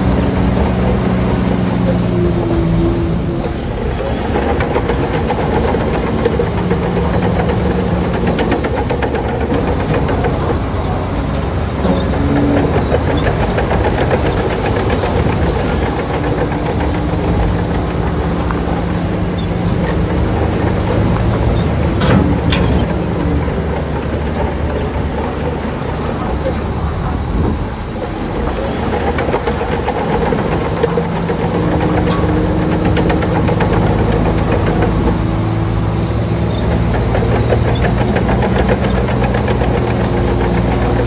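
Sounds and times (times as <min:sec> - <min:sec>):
bulldozer diesel engine: 0:00.0 - 0:41.0
rapid even clatter: 0:00.0 - 0:41.0.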